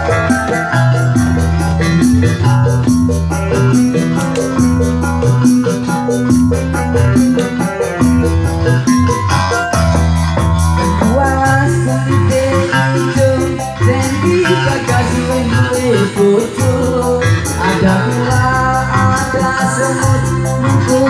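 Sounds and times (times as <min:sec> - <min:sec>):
bass and drums: 0:00.0 - 0:21.0
keyboard melody: 0:00.0 - 0:21.0.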